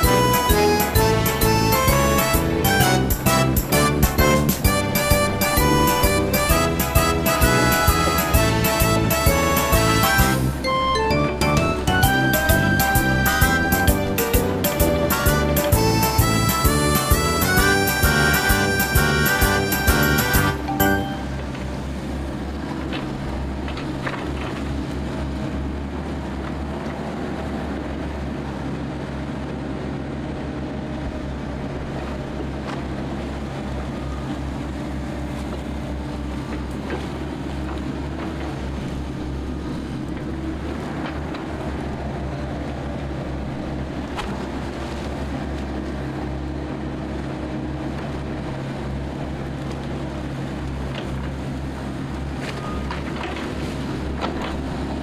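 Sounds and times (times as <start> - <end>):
excavator diesel engines running: 0.0 - 55.0.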